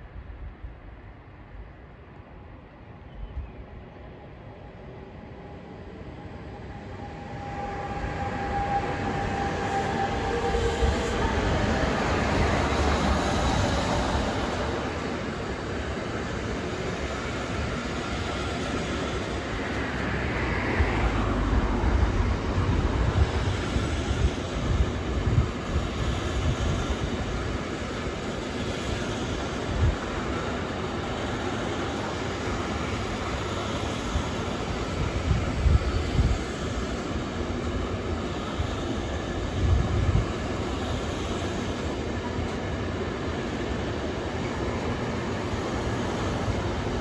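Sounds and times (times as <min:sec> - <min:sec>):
train wheels rumbling on rails: 0:04.8 - 0:47.0.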